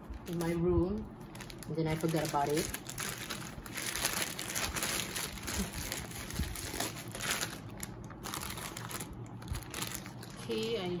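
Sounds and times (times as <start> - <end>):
wrapping paper crinkling: 0.1 - 11.0.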